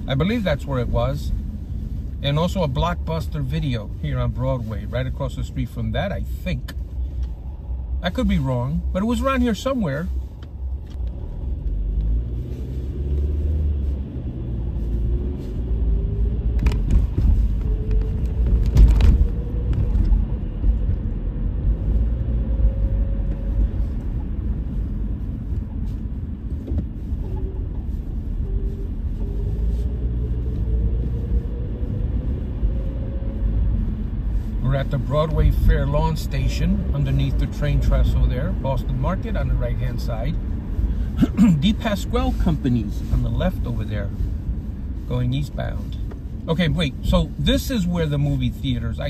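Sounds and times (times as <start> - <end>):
road and engine rumble: 0.0 - 49.0.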